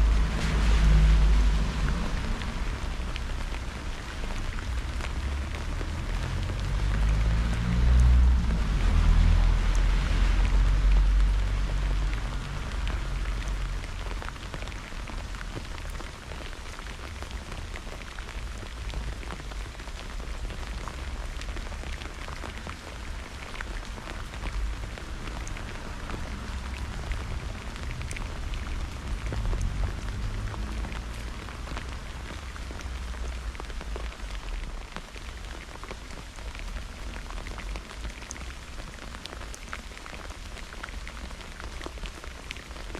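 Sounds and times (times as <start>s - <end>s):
raindrops ticking on surface: 0.0s - 42.9s
steady rain: 0.0s - 42.9s.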